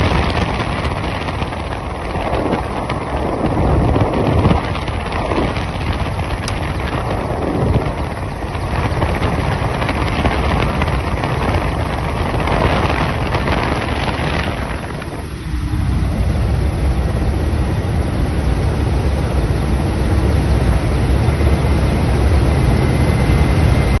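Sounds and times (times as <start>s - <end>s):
helicopter rotors and engines droning: 0.0s - 24.0s
wind buffeting microphone: 0.0s - 24.0s.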